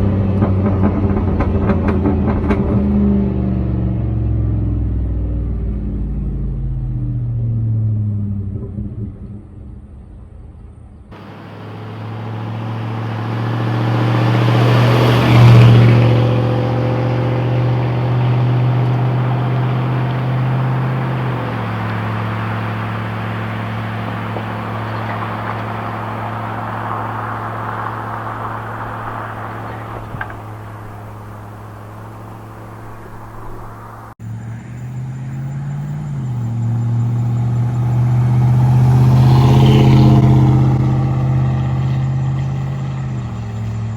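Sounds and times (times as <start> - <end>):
truck engine exhaust: 0.0 - 43.9.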